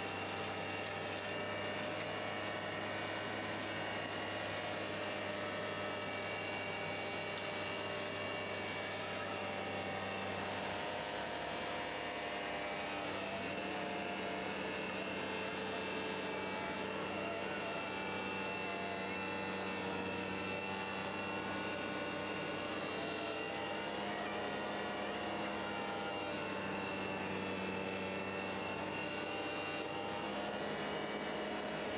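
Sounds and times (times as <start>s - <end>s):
vacuum truck engine droning: 0.0s - 31.9s.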